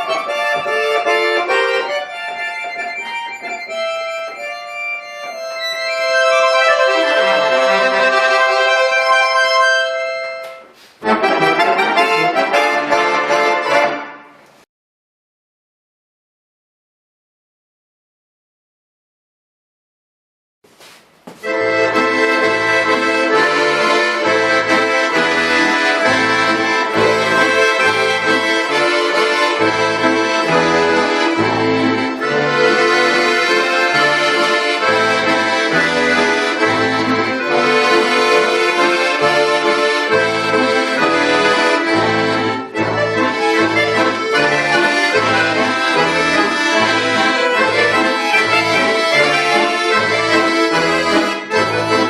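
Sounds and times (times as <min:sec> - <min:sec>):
accordion playing: 0:00.0 - 0:14.5, 0:20.8 - 0:52.0.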